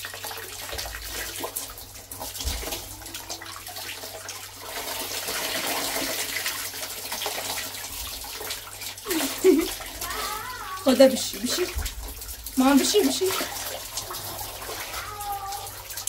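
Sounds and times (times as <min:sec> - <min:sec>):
water splashing on a child: 0:00.0 - 0:16.0.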